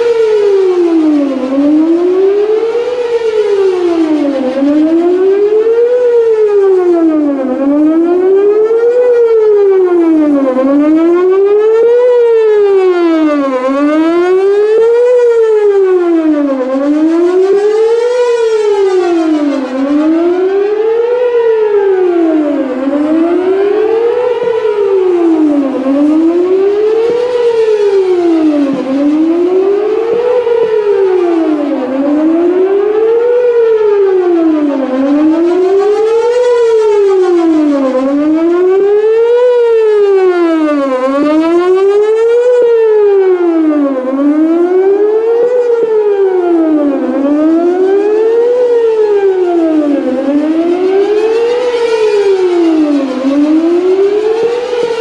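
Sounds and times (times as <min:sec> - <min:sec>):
warning siren wailing: 0:00.0 - 0:55.0.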